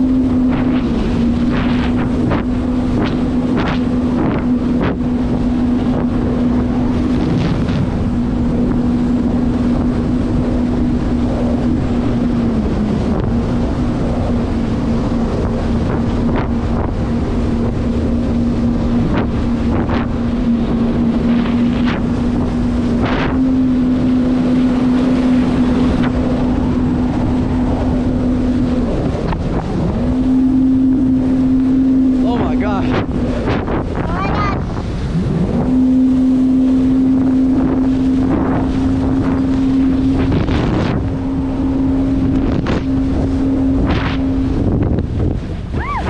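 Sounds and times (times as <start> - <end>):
jet ski engine running: 0.0 - 46.0
wind buffeting microphone: 0.0 - 46.0.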